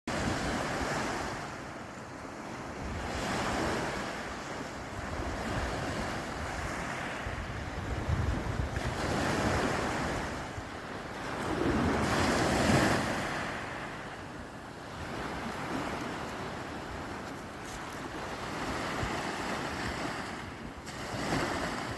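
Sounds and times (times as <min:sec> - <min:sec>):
sea waves washing ashore: 0:00.1 - 0:21.9
wind buffeting microphone: 0:00.1 - 0:21.9.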